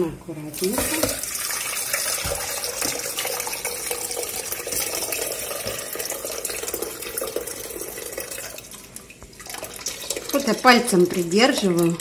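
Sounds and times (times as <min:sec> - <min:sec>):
hot water pouring into saucepan: 0:00.6 - 0:12.0.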